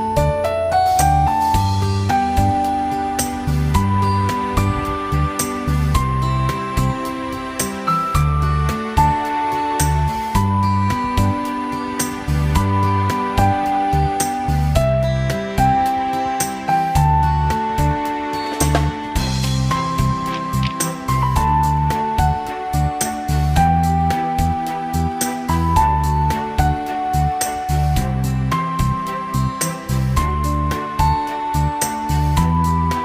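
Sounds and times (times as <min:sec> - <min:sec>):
background music with steady beat: 0:00.0 - 0:33.0
soft slow melody: 0:00.0 - 0:33.0
steady bass notes: 0:00.0 - 0:33.0.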